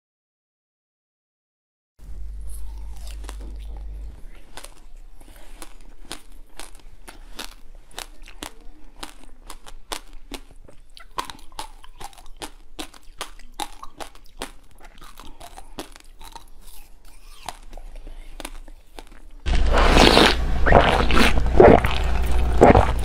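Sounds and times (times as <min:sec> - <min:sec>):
chewing crunchy jelly balls: 0:02.0 - 0:23.0.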